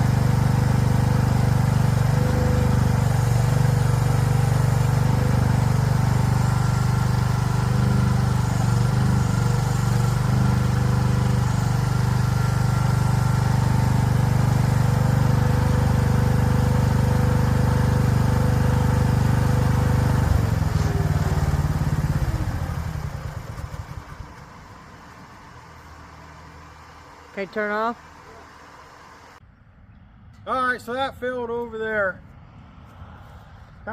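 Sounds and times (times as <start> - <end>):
small engine running: 0.0 - 29.4.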